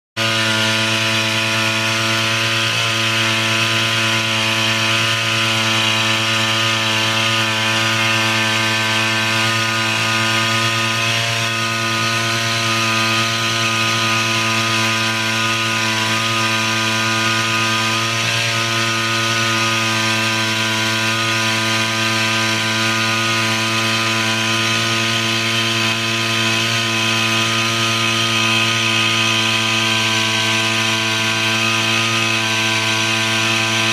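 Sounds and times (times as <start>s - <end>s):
power sprayer engine running: 0.2s - 33.9s.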